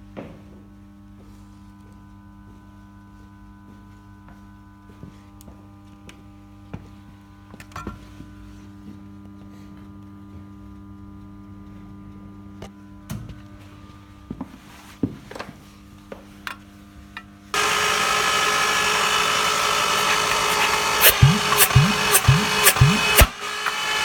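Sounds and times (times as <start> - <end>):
electrical hum with buzz: 0.0 - 23.4.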